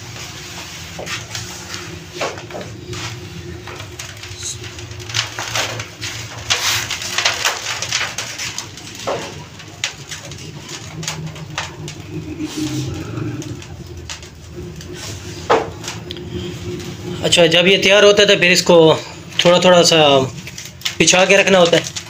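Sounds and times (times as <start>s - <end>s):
flaky sweet strands rustling: 0.0s - 22.0s
steady low hum: 0.0s - 22.0s.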